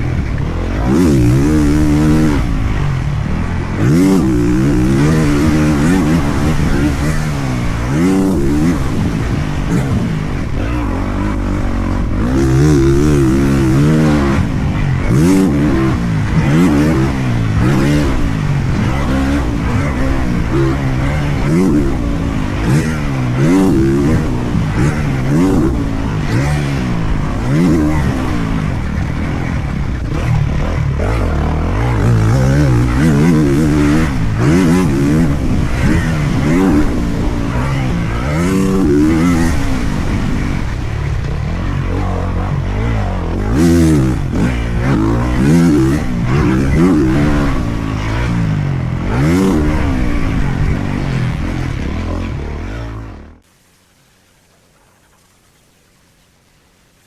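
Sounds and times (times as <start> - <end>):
dirt bike engine revving: 0.0 - 53.5.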